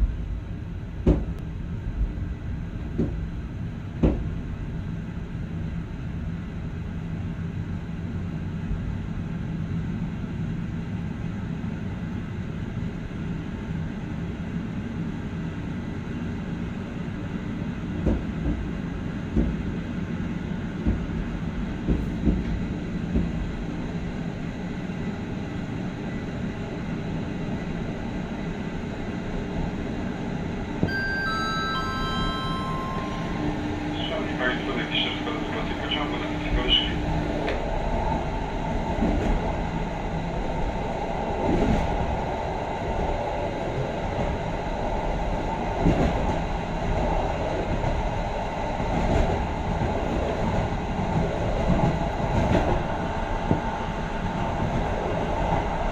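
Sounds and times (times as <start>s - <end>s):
train low rumble: 0.0s - 55.9s.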